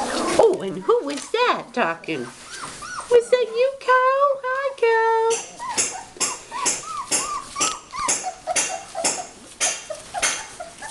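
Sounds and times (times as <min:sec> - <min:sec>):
puppy whimpering: 0:00.0 - 0:04.1, 0:05.3 - 0:10.9.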